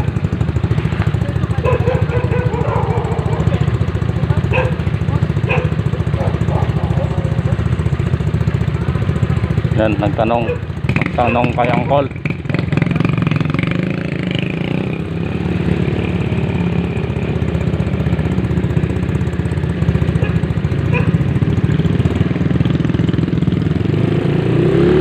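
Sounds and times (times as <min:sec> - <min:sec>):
small motorcycle engine idling: 0:00.0 - 0:25.0.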